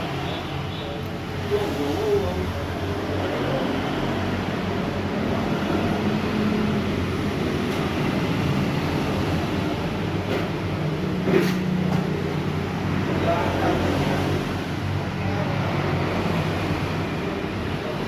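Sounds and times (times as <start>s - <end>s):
steady engine hum: 0.0s - 18.0s.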